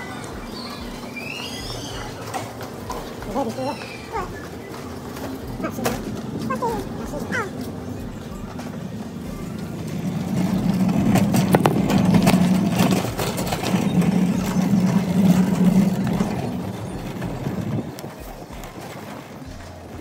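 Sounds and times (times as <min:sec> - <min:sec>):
shopping cart wheels rumbling: 0:00.0 - 0:20.0
wire basket rattling: 0:00.0 - 0:20.0.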